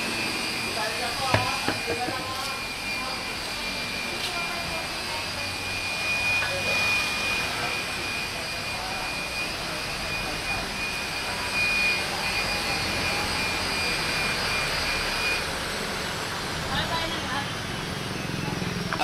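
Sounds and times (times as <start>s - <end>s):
high-pitched machine whine: 0.0s - 19.0s.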